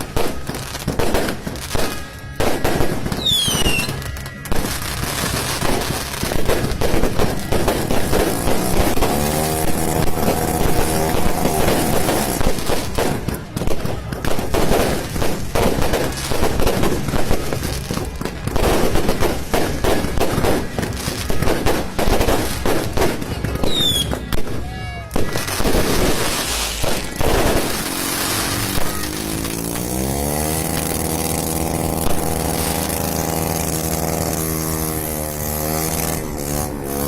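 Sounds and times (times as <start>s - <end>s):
firework whistle: 0.0s - 36.8s
fireworks bangs and crackles: 0.0s - 37.0s.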